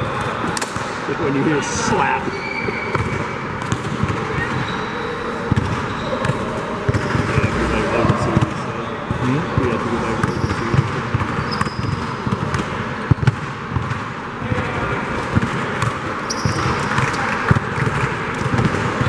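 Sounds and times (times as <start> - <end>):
gym background noise: 0.0 - 19.0
basketball bouncing on gym floor: 2.6 - 4.8, 5.5 - 19.0.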